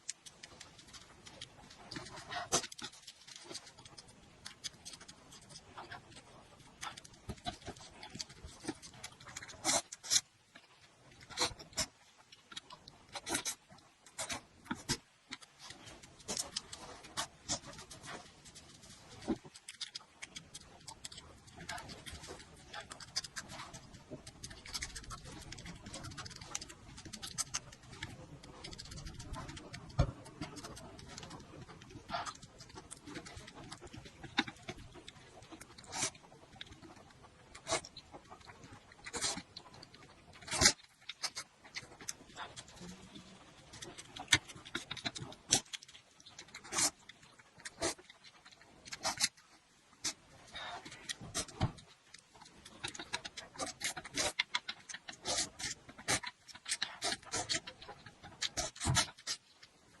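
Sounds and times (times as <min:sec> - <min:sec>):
chewing and lip-smacking: 0:00.0 - 1:00.0.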